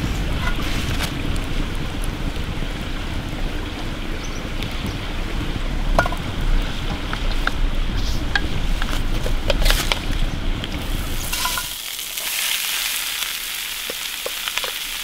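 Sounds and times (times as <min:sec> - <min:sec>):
flames rushing: 0:00.0 - 0:15.0
wood crackling and popping: 0:00.0 - 0:15.0.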